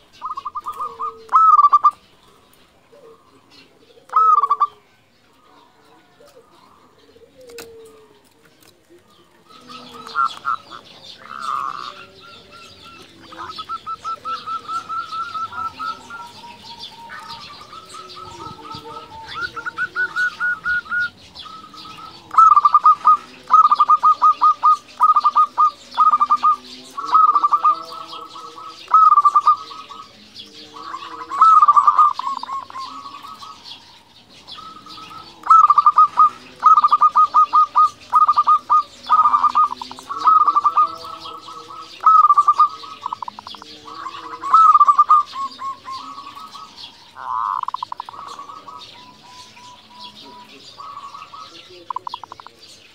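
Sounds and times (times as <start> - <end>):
dove trilled cooing: 0.0 - 52.9
small birds chirping: 0.0 - 52.9.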